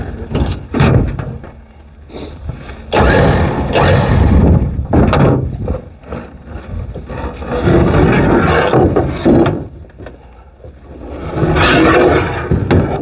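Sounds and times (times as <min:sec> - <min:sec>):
ramps scraping against trailer: 0:02.5 - 0:13.0.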